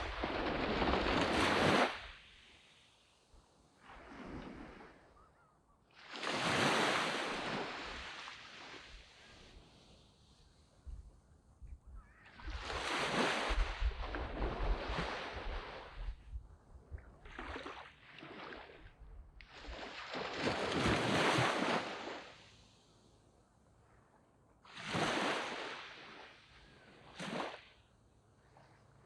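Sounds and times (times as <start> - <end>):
waves breaking on sand: 0.0 - 5.3, 5.9 - 10.8, 12.2 - 16.3, 17.2 - 23.0, 24.6 - 29.0.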